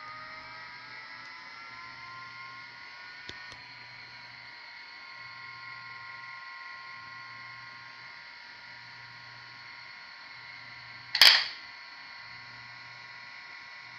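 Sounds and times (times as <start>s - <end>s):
hard disk drive whining: 0.0s - 13.9s.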